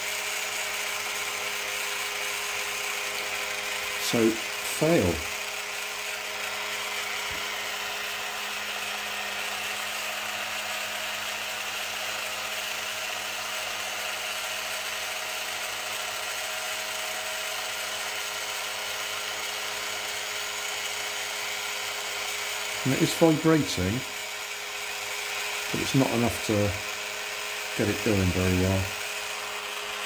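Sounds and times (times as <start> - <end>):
small motor buzzing: 0.0 - 30.0.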